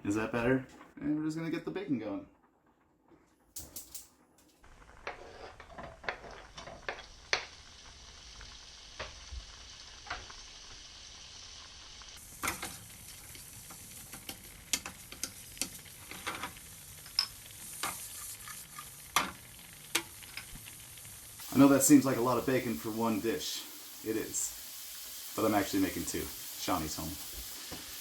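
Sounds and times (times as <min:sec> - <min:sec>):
bacon sizzling in pan: 0:04.6 - 0:28.0.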